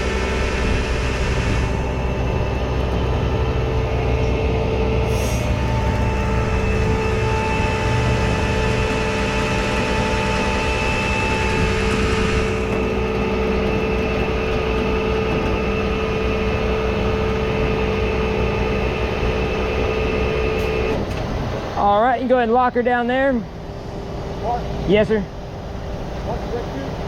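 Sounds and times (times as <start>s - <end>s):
hydraulic winch whine: 0.0s - 27.0s
truck engine running: 0.0s - 27.0s.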